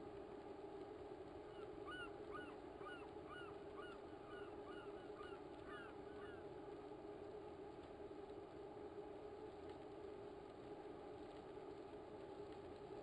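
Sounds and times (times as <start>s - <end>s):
faint steady background hum: 0.0s - 13.0s.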